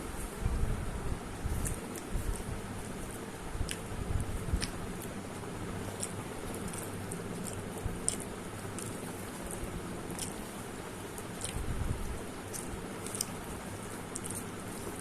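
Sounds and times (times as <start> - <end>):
background hum: 0.0 - 15.0
person chewing food: 1.5 - 15.0.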